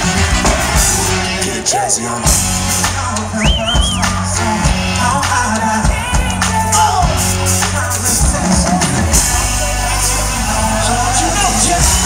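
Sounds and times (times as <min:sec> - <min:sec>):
live band music: 0:00.0 - 0:12.0
person singing: 0:00.4 - 0:12.0.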